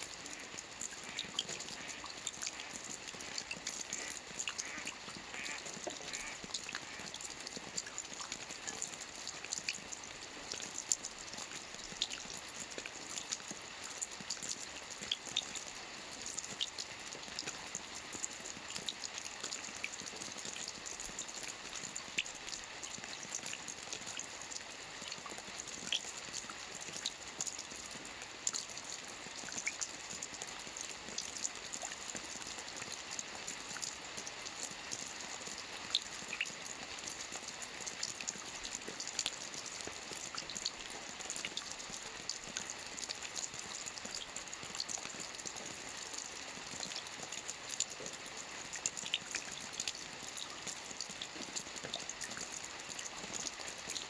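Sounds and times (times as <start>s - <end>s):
rain on a roof: 0.0s - 54.0s.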